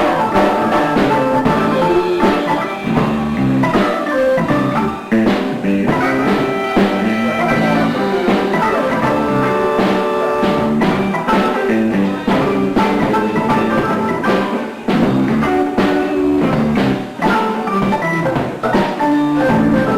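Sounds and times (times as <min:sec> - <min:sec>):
drum kit beat: 0:00.0 - 0:19.9
electric guitar: 0:00.0 - 0:19.9
live funk band playing: 0:00.0 - 0:19.9.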